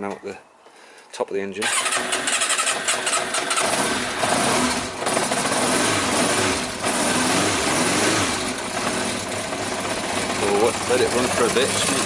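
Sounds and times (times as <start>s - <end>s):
motorcycle engine revving: 1.6s - 12.0s.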